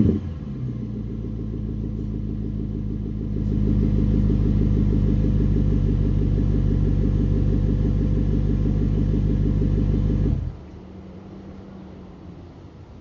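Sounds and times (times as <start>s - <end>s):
car engine running: 0.0s - 10.7s.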